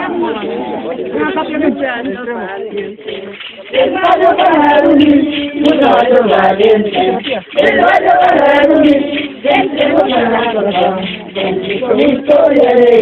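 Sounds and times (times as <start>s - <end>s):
group singing a festive song: 0.0s - 13.0s.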